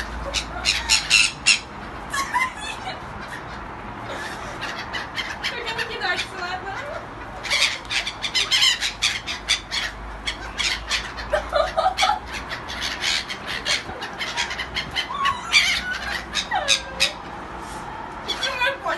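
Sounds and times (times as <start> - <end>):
gulls calling: 0.0 - 17.4, 18.2 - 18.9.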